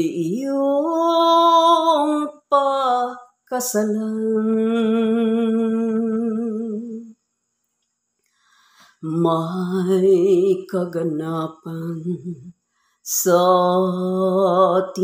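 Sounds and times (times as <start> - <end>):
woman singing unaccompanied: 0.0 - 7.2, 8.9 - 15.0.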